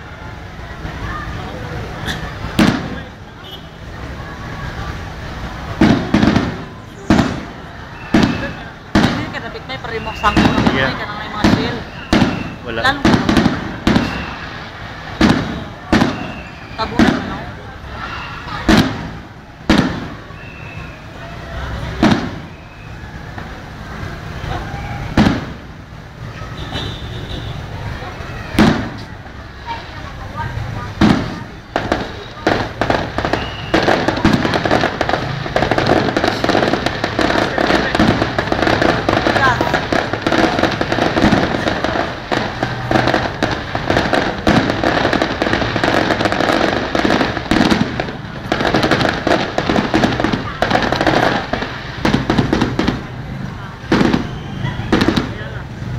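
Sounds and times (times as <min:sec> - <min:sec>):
fireworks bangs: 0:00.0 - 0:55.9
murmur of crowd voices: 0:00.0 - 0:55.9.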